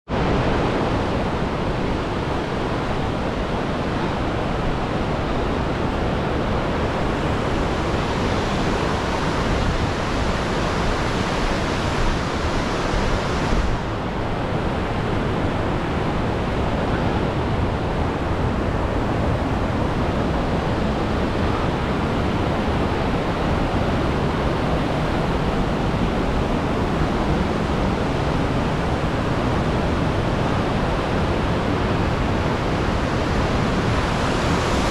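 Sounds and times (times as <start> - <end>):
river rapids rushing: 0.1 - 34.9.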